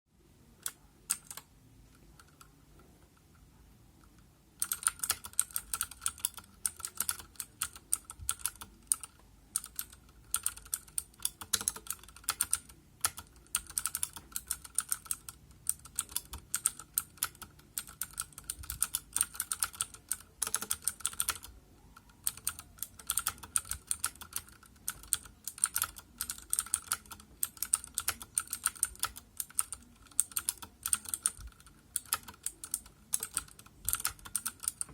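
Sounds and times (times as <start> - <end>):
clicky mechanical keyboard typing: 0.5 - 34.9.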